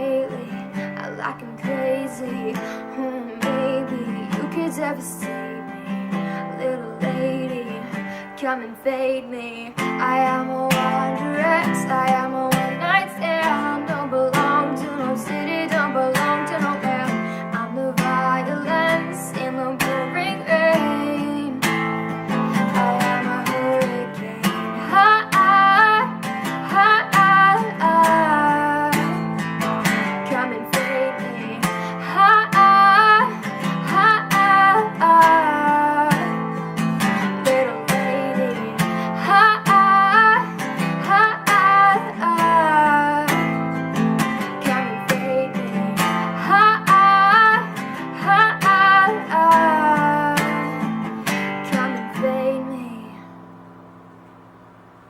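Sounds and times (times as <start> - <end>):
acoustic guitar strummed and plucked: 0.0 - 55.0.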